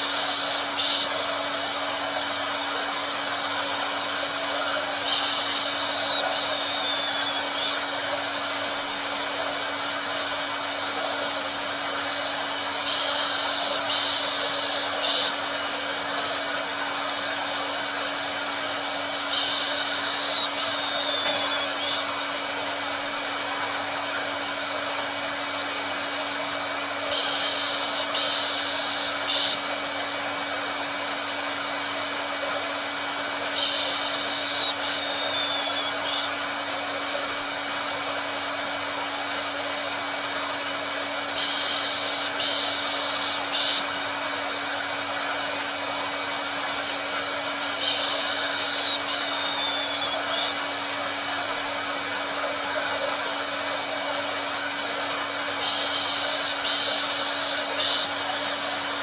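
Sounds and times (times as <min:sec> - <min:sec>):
high hiss: 0:00.0 - 0:24.7, 0:26.5 - 0:30.1, 0:33.2 - 0:37.0, 0:40.3 - 0:53.7, 0:54.3 - 0:59.0
hair dryer running: 0:00.0 - 0:59.0.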